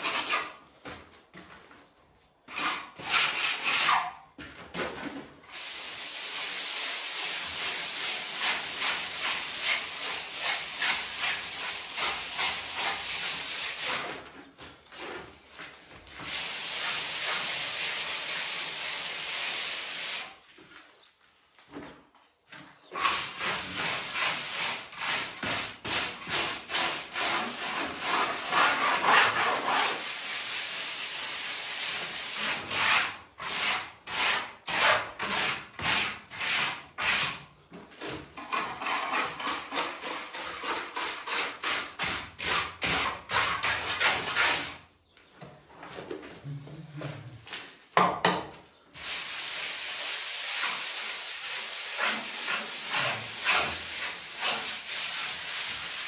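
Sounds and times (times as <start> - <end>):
plastering float rubbing on wall: 2.5 - 4.2, 5.5 - 14.3, 15.0 - 20.4, 22.8 - 44.8, 49.0 - 56.0.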